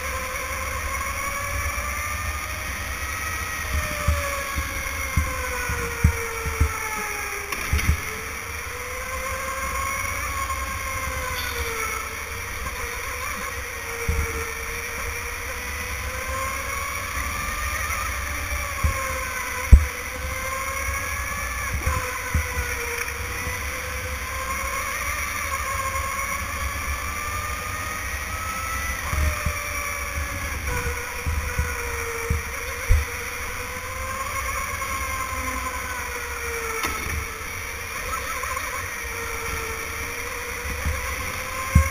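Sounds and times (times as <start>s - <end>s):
electric go-kart motor whining: 0.0s - 41.9s.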